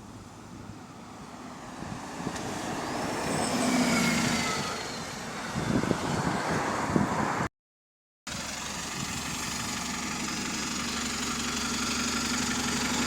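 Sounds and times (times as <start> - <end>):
bus slowing with falling whine: 0.0 - 7.5, 8.3 - 13.0.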